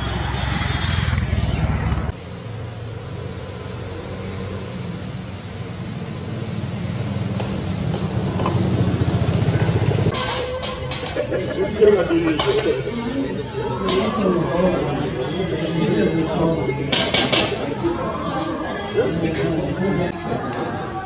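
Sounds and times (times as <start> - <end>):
insects droning: 2.1 - 20.2.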